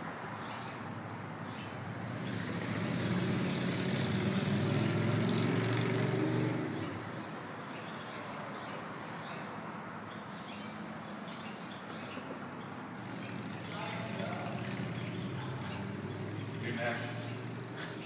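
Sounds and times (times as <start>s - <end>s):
background traffic hum: 0.0s - 18.0s
vehicle driving past: 0.2s - 8.0s, 10.5s - 18.0s.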